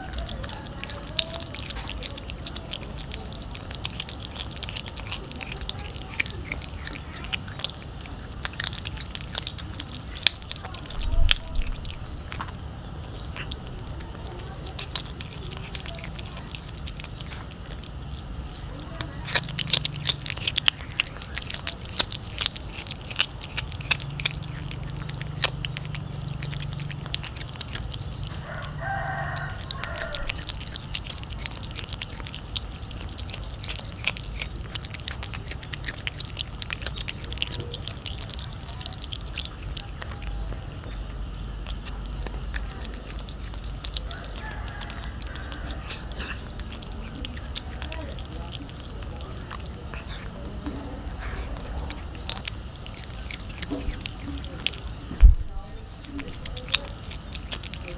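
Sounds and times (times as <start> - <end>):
cat chewing raw fish: 0.0 - 57.9.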